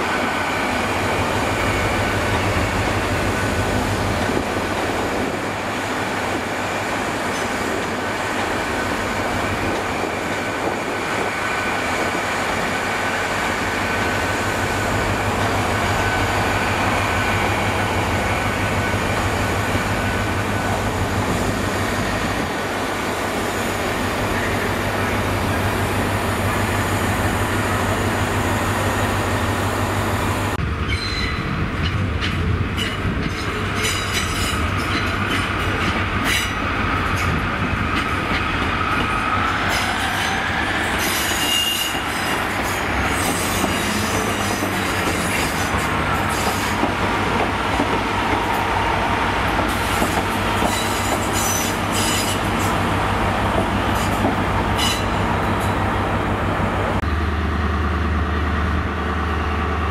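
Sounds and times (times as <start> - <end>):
train rumble with high whine: 0.0 - 59.9.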